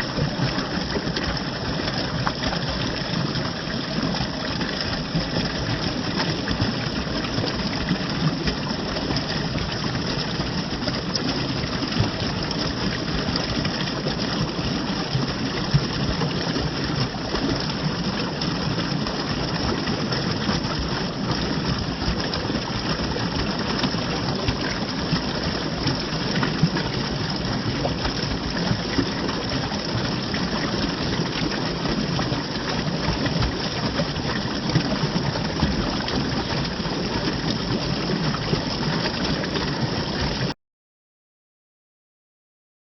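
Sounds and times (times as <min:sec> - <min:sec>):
running water flowing: 0:00.0 - 0:40.5.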